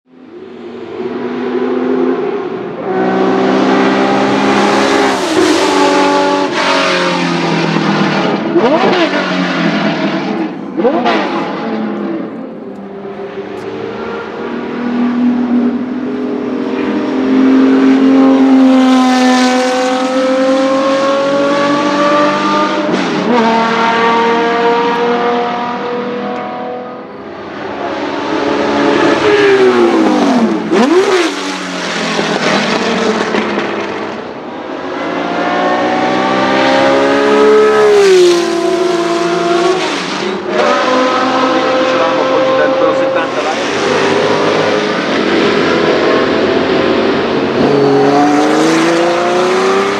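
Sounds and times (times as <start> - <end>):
racing car engine at high revs: 0.2 - 49.9.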